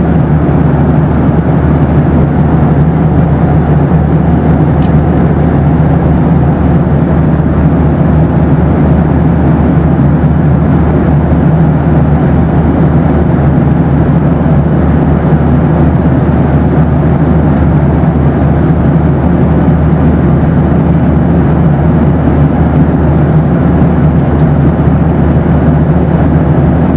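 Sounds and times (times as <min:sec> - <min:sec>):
airplane cabin engine noise: 0:00.0 - 0:26.9.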